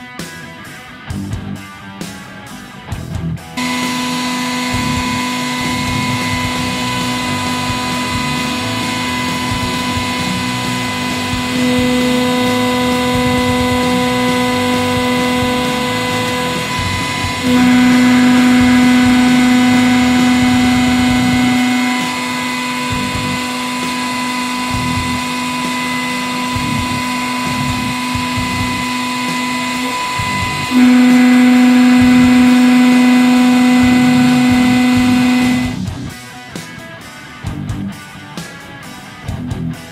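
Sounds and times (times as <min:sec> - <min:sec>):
hydraulic pump motor humming: 0:03.6 - 0:36.0.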